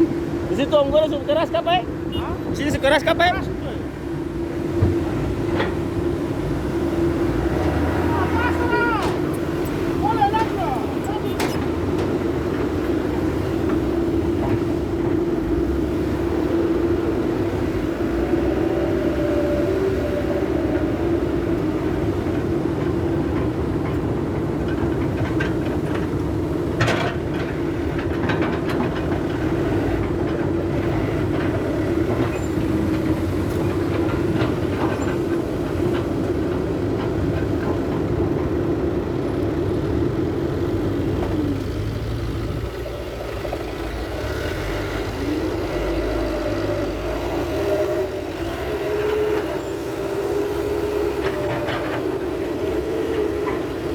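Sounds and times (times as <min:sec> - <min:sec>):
diesel truck engine running: 0:00.0 - 0:53.9
truck knocks and rattles: 0:00.0 - 0:53.9.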